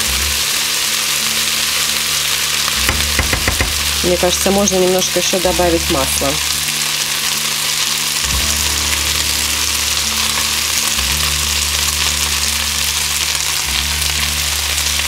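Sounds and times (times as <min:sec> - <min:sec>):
food frying in a pan: 0:00.0 - 0:15.0.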